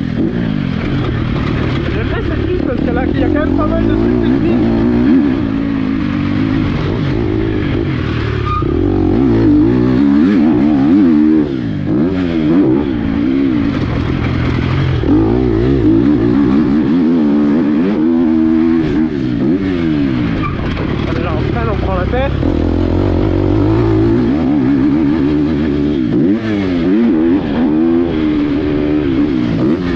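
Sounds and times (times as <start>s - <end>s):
motocross bike engine revving: 0.0s - 29.9s.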